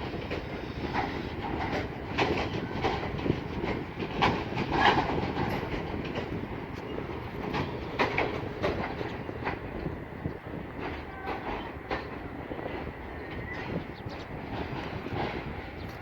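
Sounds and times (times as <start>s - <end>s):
train rumbling on track: 0.0s - 16.0s
wheels clacking over rail joints: 0.0s - 16.0s.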